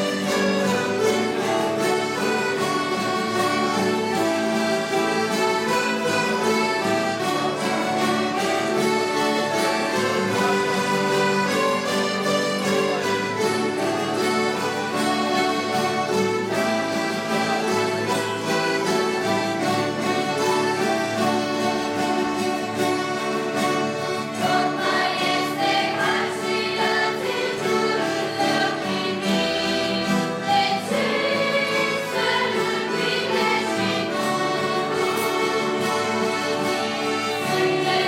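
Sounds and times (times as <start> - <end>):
string orchestra playing: 0.0 - 38.0.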